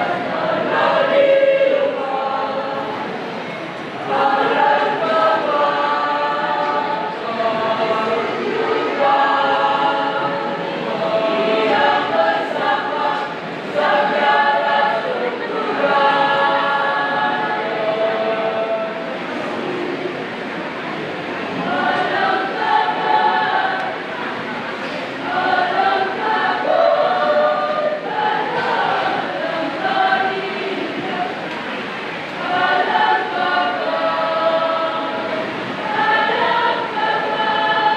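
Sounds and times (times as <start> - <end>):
mixed choir singing unaccompanied: 0.0 - 37.9.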